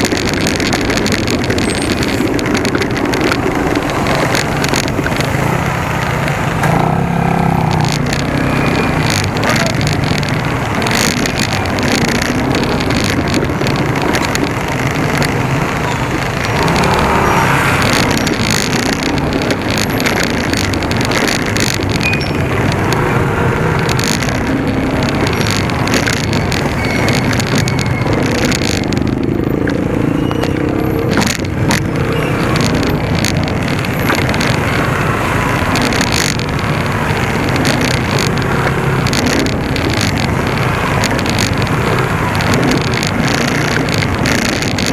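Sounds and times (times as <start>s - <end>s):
motorcycle engine running: 0.0s - 44.9s
road and wind noise: 0.0s - 44.9s.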